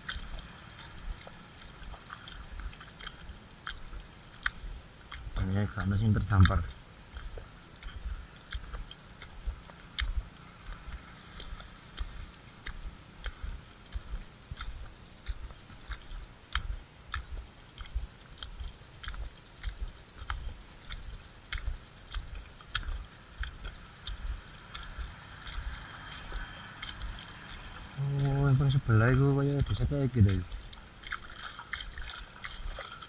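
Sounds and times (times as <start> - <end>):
footsteps in wet mud: 0.0 - 33.0.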